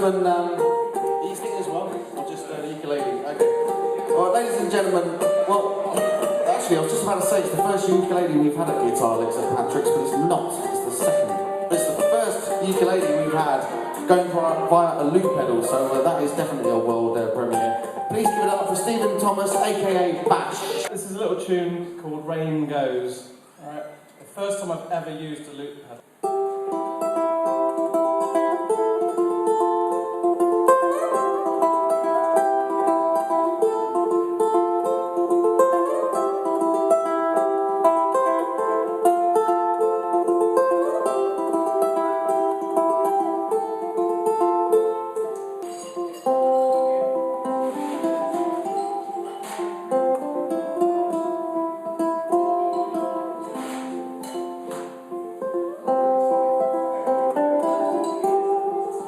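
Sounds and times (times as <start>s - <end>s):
looped ukulele: 0.0s - 21.0s, 26.2s - 59.0s.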